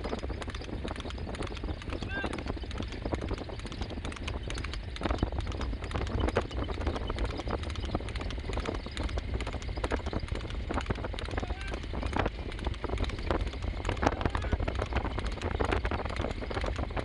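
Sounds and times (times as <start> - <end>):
horse hooves clopping on asphalt: 0.0 - 17.0
low rumble: 0.0 - 17.0.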